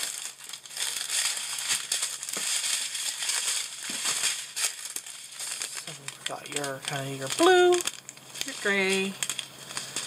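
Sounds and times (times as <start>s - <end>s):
thin plastic crinkling: 0.0s - 10.0s.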